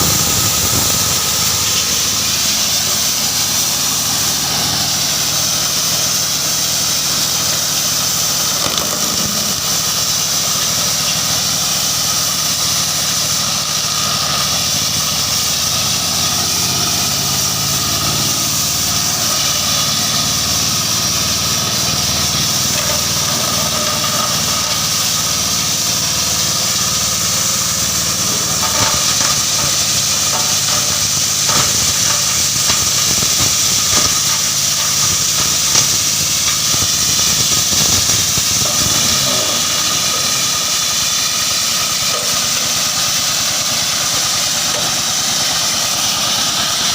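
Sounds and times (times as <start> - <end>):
wood crusher machine running: 0.0 - 46.9.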